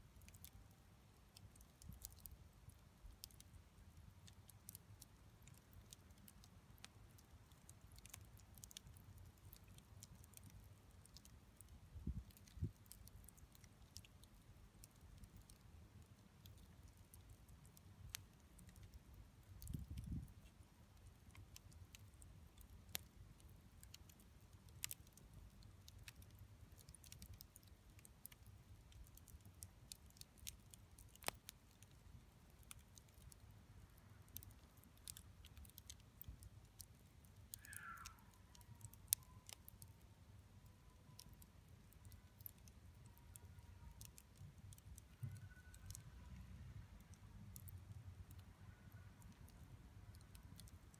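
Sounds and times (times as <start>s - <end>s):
sharp pops and snaps: 0.0s - 40.0s, 40.6s - 48.5s, 49.2s - 50.9s
campfire crackling: 0.0s - 48.4s, 49.3s - 50.9s.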